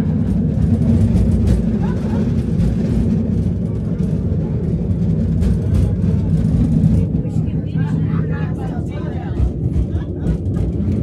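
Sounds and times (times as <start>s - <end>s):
cable car rumbling: 0.0s - 11.0s.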